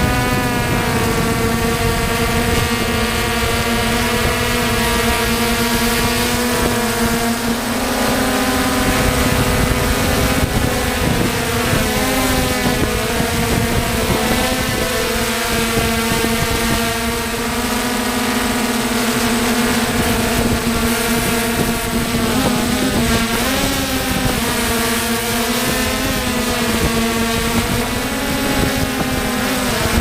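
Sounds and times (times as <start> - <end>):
drone motors buzzing: 0.0 - 30.0
wind rumble on microphone: 0.0 - 30.0.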